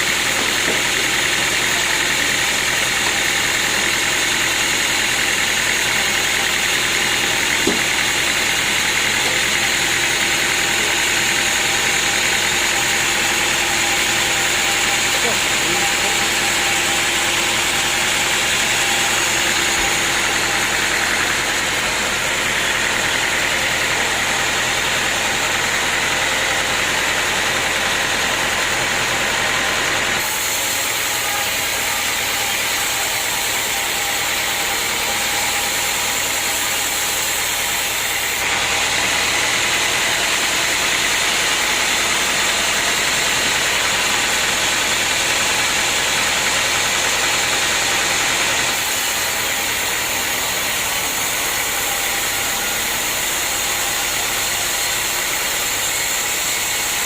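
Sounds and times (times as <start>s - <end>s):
loud machinery hiss: 0.0s - 28.4s, 30.1s - 57.0s
engine droning: 0.0s - 57.0s.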